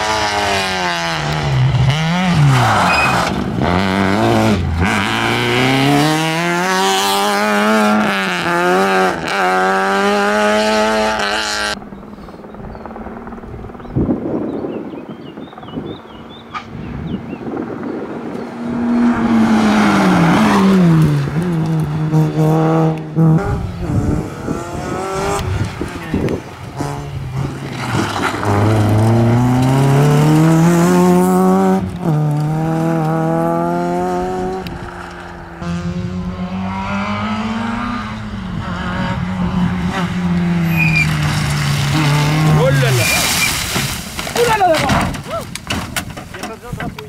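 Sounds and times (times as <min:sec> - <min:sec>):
rally car engines revving: 0:00.0 - 0:15.5, 0:16.1 - 0:47.0.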